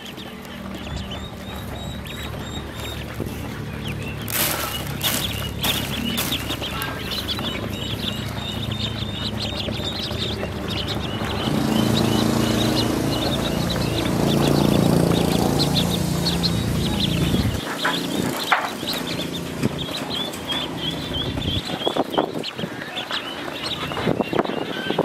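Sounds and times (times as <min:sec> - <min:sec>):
low droning hum: 0:00.0 - 0:21.9
ducklings peeping: 0:00.0 - 0:25.0.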